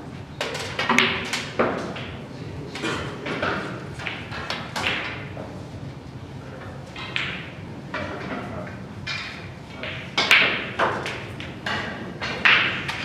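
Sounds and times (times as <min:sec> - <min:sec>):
snooker balls clicking: 0:00.4 - 0:05.5, 0:06.6 - 0:13.0.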